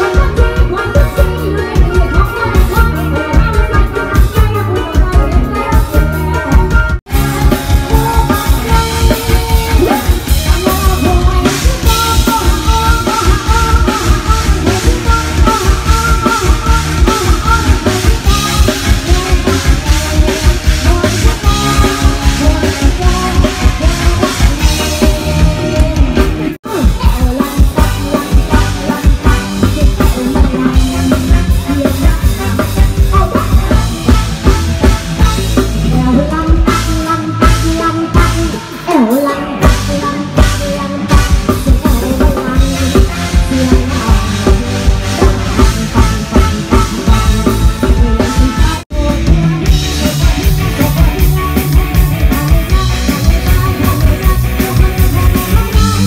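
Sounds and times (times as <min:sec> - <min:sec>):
drum kit beat: 0:00.0 - 0:56.0
live band music: 0:00.0 - 0:56.0
person singing: 0:00.0 - 0:56.0.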